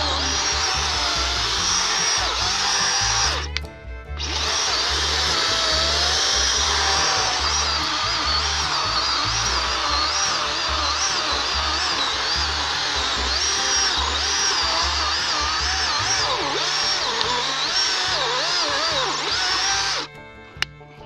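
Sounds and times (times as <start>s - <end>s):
chainsaw cutting wood: 0.0s - 20.1s.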